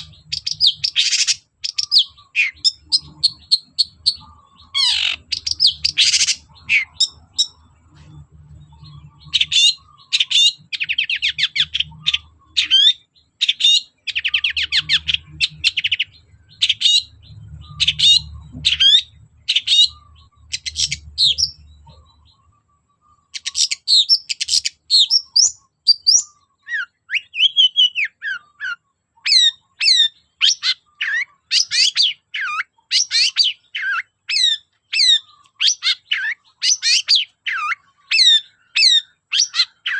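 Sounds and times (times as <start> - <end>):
bird singing sharp trills: 0.0 - 39.9.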